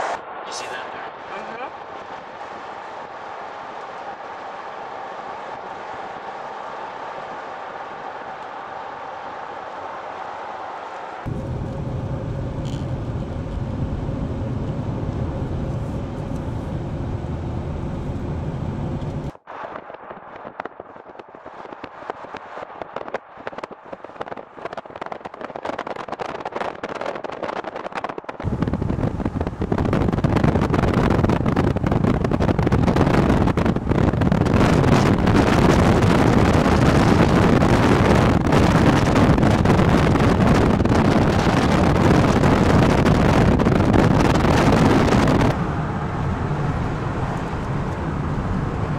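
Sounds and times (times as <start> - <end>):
wind noise over microphone: 0.0 - 10.3, 11.2 - 48.9
car road and engine noise: 0.0 - 48.9.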